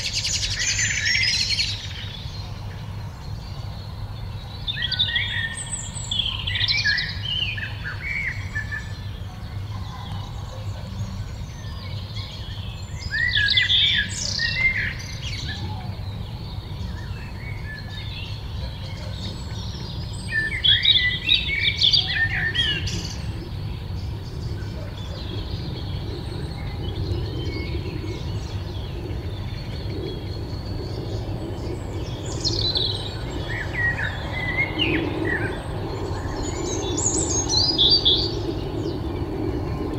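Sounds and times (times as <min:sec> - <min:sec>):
songbirds chirping: 0:00.0 - 0:39.9
steady low rumble: 0:00.0 - 0:39.9.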